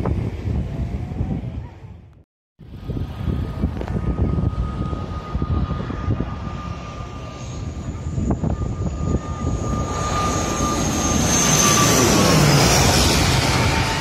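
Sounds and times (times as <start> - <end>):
wind buffeting microphone: 0.0 - 14.0
jet airliner engine whine: 2.6 - 14.0.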